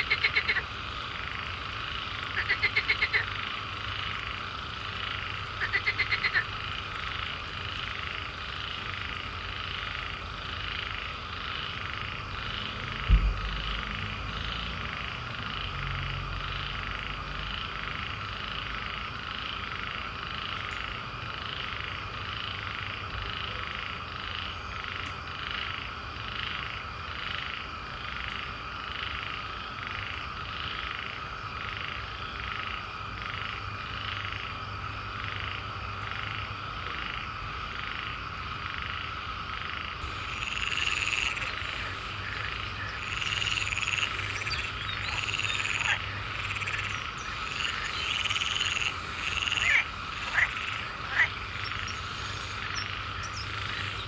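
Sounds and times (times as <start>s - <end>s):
frogs trilling: 0.0s - 54.0s
high-pitched frog calls: 0.0s - 54.0s.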